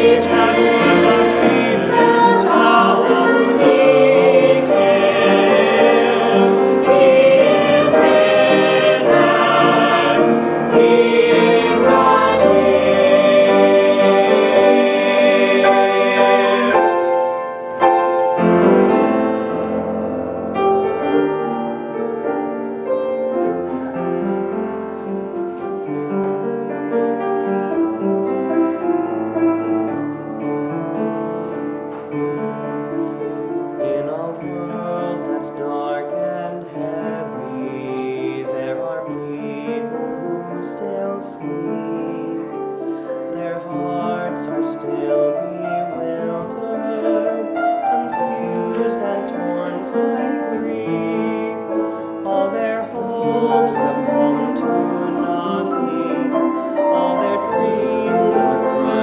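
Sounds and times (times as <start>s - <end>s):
choir singing a hymn: 0.0s - 59.0s
piano playing: 0.0s - 59.0s.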